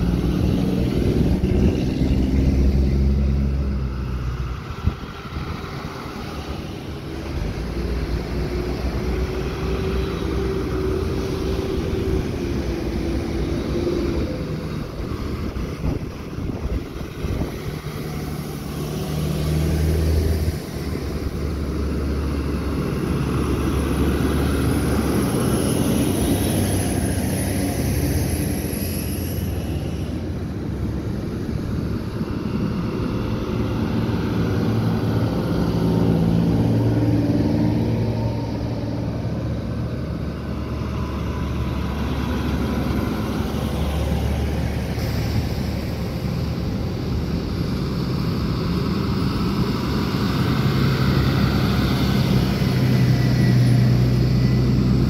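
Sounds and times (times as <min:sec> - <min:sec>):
fire truck engines rumbling: 0:00.0 - 0:55.0.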